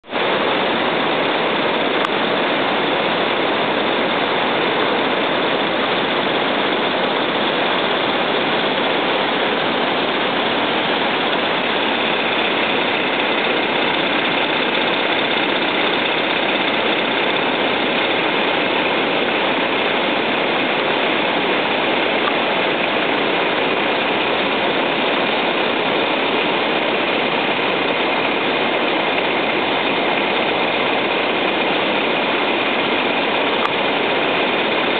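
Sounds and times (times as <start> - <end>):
river rushing over weir: 0.1 - 34.9.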